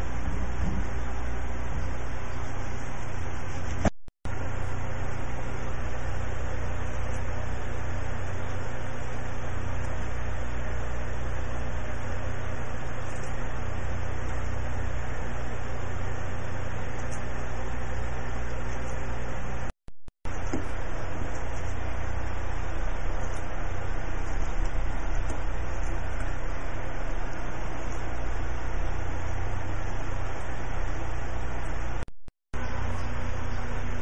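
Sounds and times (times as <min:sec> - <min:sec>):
machine hum: 0:00.0 - 0:19.7, 0:20.3 - 0:34.0.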